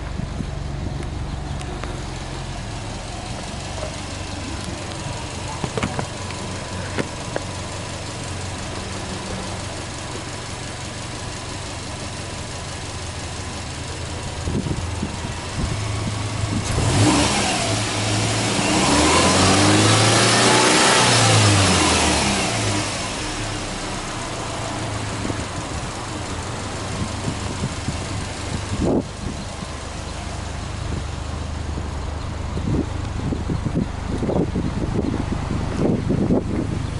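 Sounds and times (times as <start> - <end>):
car engine idling and revving: 0.0 - 36.9.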